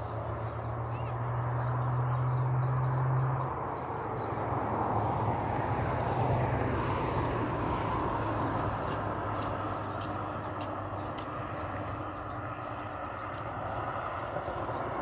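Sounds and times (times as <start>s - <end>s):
distant engine drone: 0.0s - 15.0s.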